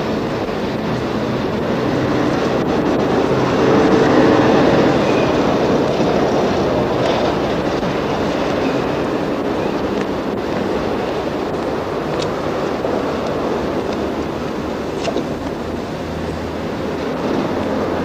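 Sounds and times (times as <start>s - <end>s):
loud steady rumbling: 0.0s - 18.0s.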